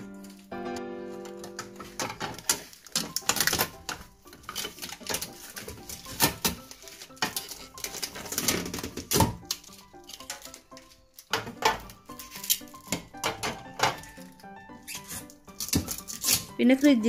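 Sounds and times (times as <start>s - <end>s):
hard items clattering: 0.0s - 17.0s.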